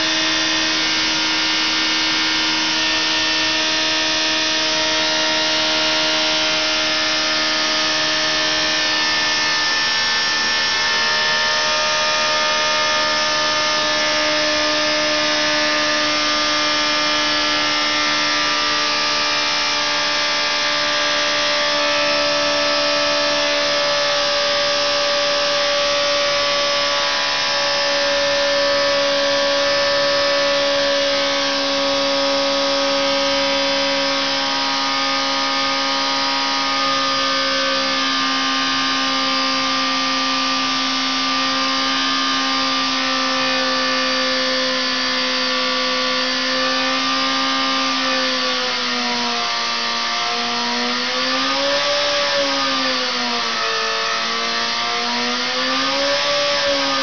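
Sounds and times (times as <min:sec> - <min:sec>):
steady mechanical whine: 0:00.0 - 0:57.0.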